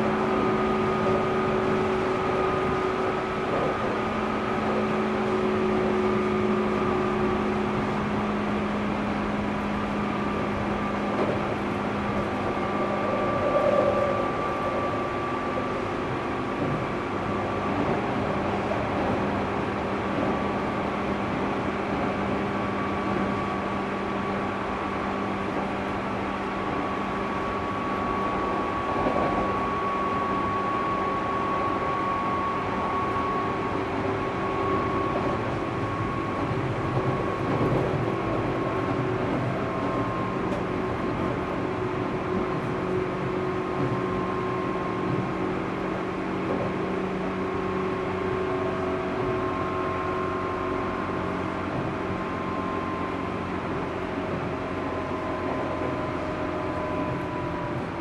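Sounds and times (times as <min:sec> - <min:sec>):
rail and wheel noise: 0:00.0 - 0:58.0
traction motor whine: 0:00.0 - 0:58.0.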